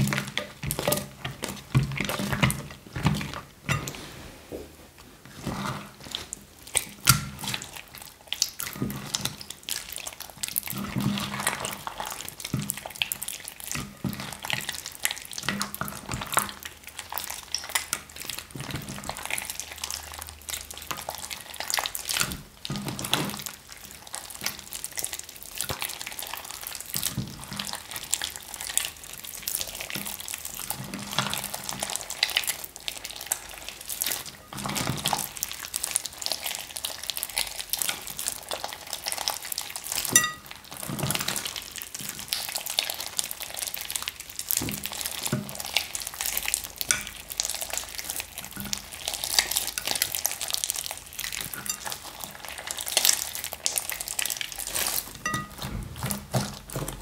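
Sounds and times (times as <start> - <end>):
slime squelching and popping: 0.0 - 3.5, 5.4 - 57.0.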